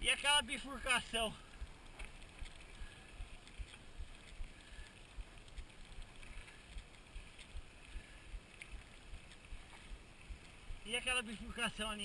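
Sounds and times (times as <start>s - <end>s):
faint ticks and rattles: 0.6s - 12.0s.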